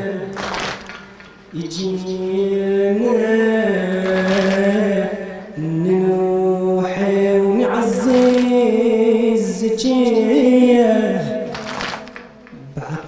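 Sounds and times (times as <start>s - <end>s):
man chanting a lament: 0.0s - 0.4s, 1.6s - 13.0s.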